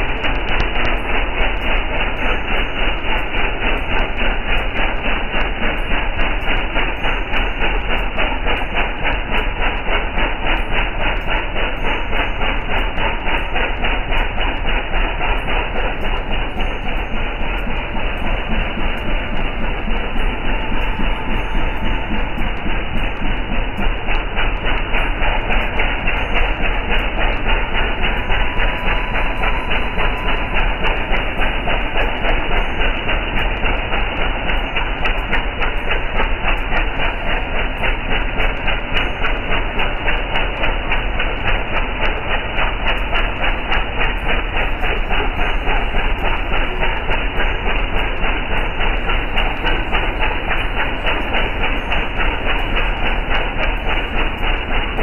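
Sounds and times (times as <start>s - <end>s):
motorboat engine chugging: 0.0s - 55.0s.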